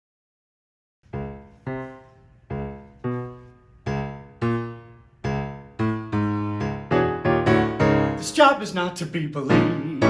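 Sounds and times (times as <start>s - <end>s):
piano chords ringing: 1.1s - 10.0s.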